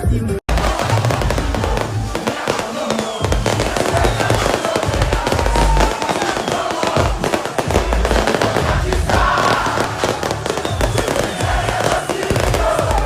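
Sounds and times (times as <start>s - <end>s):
loud music with heavy bass: 0.0s - 13.0s
fireworks crackling: 0.5s - 13.0s.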